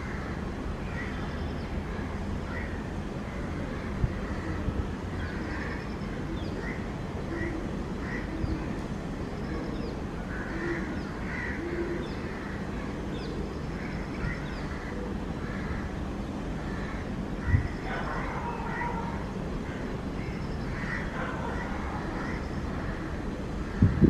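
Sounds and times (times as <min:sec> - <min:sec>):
birds calling: 0:00.0 - 0:24.0
low background rumble: 0:00.0 - 0:24.0.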